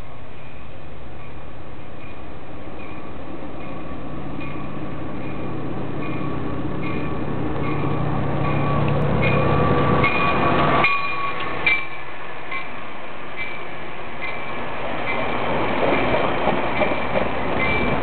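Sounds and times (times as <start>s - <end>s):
diesel locomotive engine droning: 0.0s - 18.0s
train coaches rolling past: 0.0s - 18.0s.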